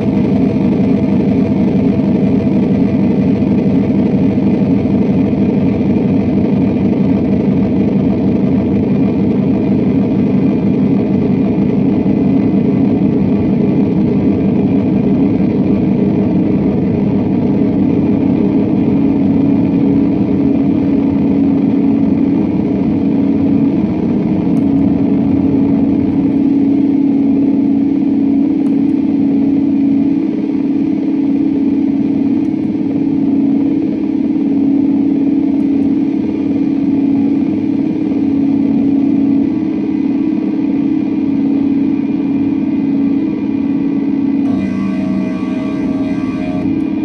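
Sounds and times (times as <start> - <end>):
electric guitar drone: 0.0 - 47.0.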